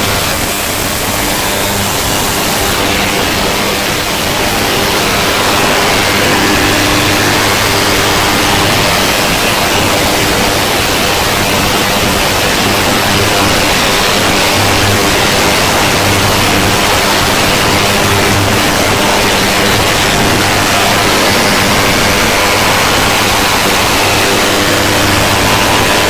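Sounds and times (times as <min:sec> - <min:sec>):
ultrasonic cleaner hiss and hum: 0:00.0 - 0:26.0.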